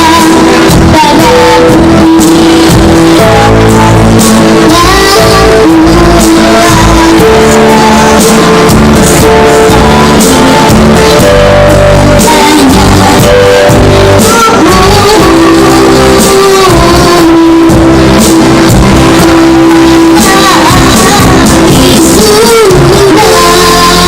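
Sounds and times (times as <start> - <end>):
child singing: 0.0 - 24.0
loud amplified backing music: 0.0 - 24.0.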